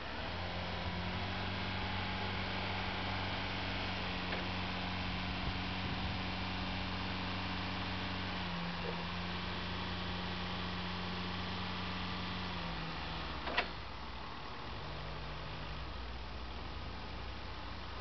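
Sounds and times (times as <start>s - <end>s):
forklift engine droning: 0.0s - 18.0s.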